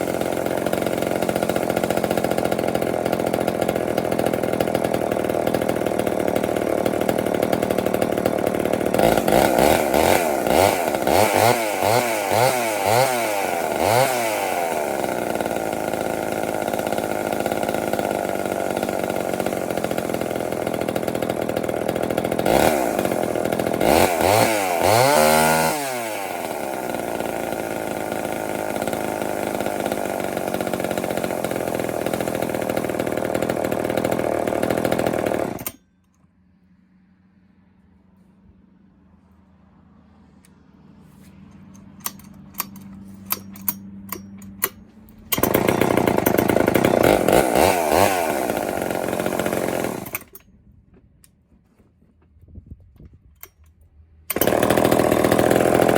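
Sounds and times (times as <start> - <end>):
chainsaw idling and revving: 0.0 - 36.0, 41.5 - 50.5, 54.2 - 55.9.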